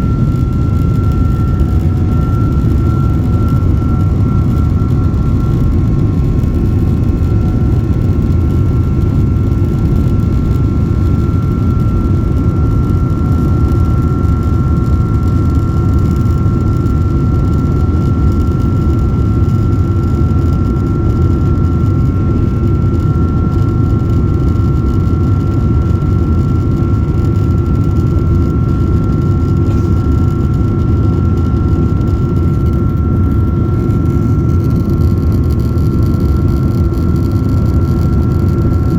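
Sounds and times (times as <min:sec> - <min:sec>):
high engine whine: 0:00.0 - 0:38.9
jet engine deep rumble: 0:00.0 - 0:38.9.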